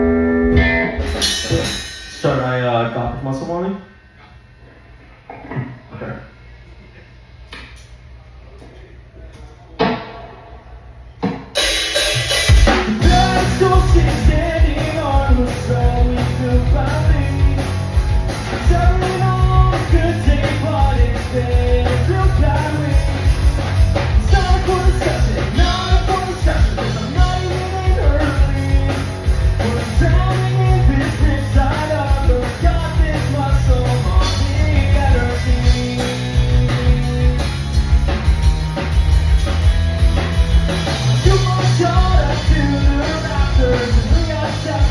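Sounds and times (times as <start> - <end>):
rock song with singing: 0.0 - 3.7, 11.2 - 44.9.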